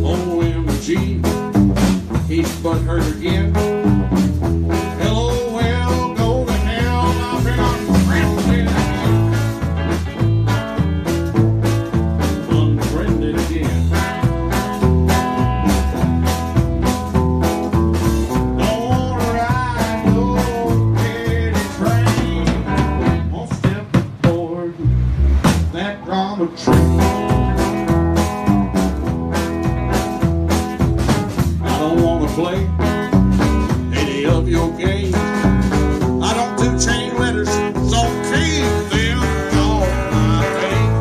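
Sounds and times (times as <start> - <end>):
drums steady beat: 0.0 - 25.9, 26.7 - 41.0
country blues band: 0.0 - 41.0
guitar lead with bending notes: 0.0 - 41.0.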